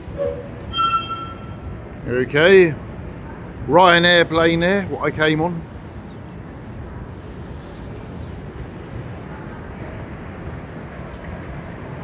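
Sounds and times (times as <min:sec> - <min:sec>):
low rumble of distant vehicles: 0:00.0 - 0:12.0.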